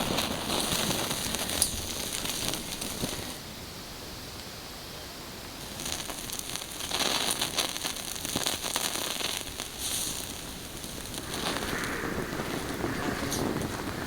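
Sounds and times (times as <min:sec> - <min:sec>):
campfire crackling and popping: 0:00.0 - 0:03.4, 0:05.4 - 0:14.0.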